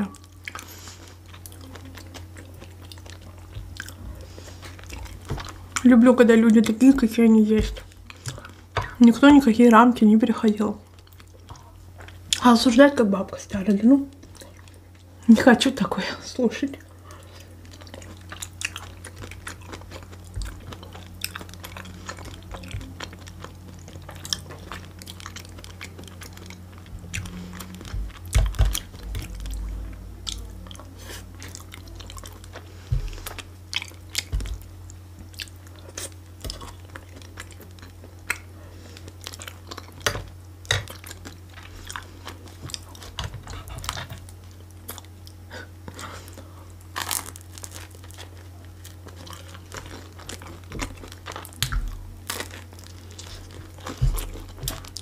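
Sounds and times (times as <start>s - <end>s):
chewing and crunching food: 0.0s - 55.0s
steady low hum: 0.0s - 55.0s.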